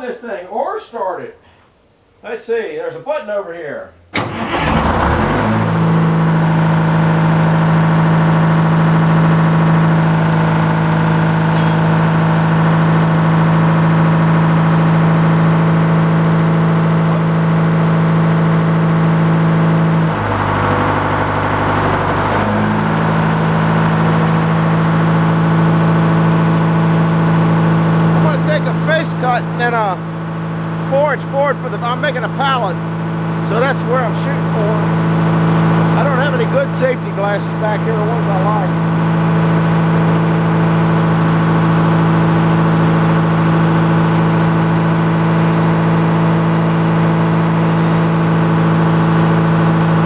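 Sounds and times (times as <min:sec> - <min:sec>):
engine idling: 0:04.0 - 0:50.0
engine starter: 0:04.0 - 0:50.0.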